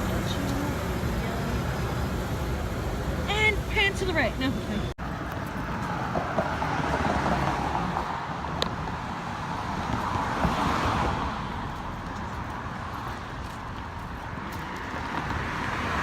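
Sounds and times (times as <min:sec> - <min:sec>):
road traffic noise: 0:00.0 - 0:16.0
vehicle passing: 0:00.0 - 0:16.0.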